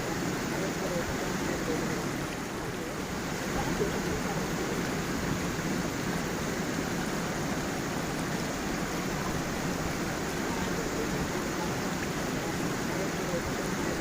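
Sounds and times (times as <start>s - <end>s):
stream and small waterfall: 0.0s - 14.0s.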